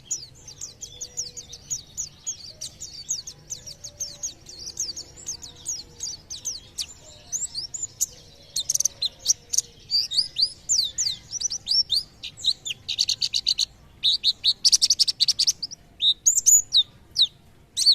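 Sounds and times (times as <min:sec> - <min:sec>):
bird singing high chirps: 0:00.0 - 0:17.9.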